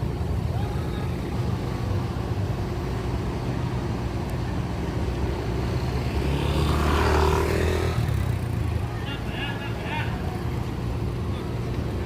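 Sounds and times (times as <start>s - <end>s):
diesel bus engine humming: 0.0s - 12.0s.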